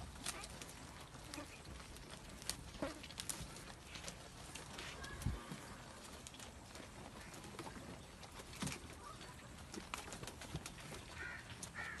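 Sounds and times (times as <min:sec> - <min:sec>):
fodder rustling: 0:00.0 - 0:12.0
hooves tapping on brick floor: 0:00.0 - 0:12.0.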